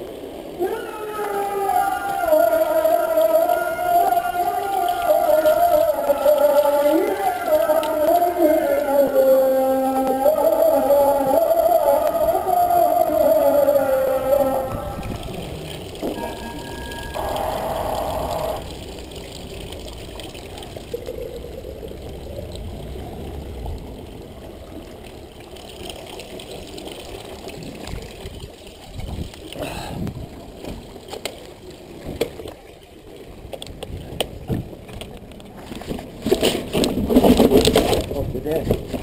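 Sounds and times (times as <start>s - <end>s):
water running and trickling: 0.0s - 35.4s.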